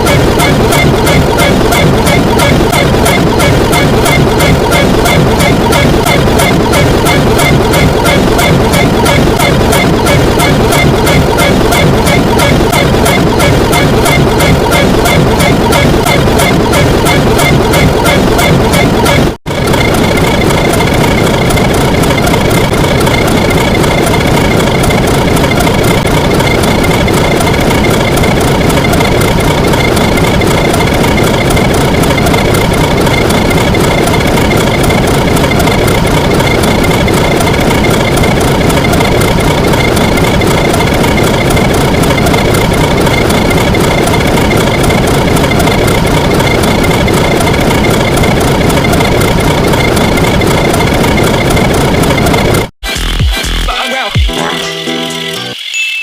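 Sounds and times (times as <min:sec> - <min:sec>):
engine running steadily: 0:00.0 - 0:52.7.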